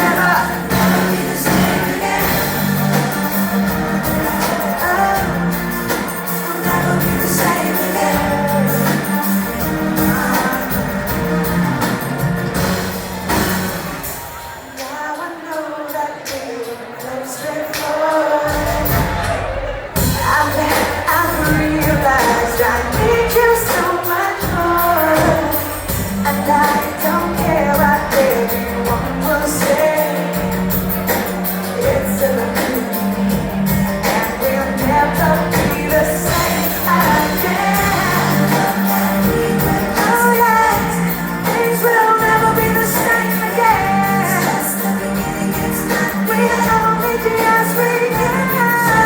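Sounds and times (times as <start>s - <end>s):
woman singing: 0.0s - 12.0s, 14.6s - 49.0s
live pop band playing: 0.0s - 49.0s.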